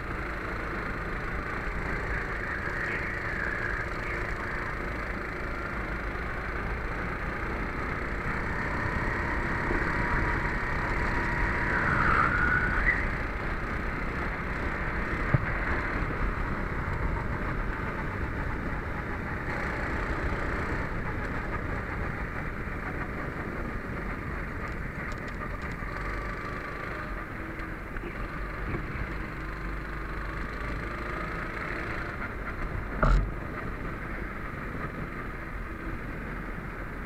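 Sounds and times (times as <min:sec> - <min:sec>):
kart engine running: 0:00.0 - 0:37.0
steady rushing noise: 0:00.0 - 0:37.0.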